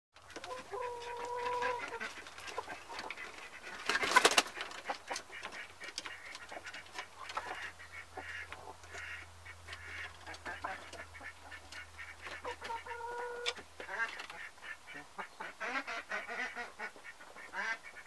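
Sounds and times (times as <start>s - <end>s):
hens calling: 0.2s - 18.0s
hens clucking: 0.2s - 18.0s.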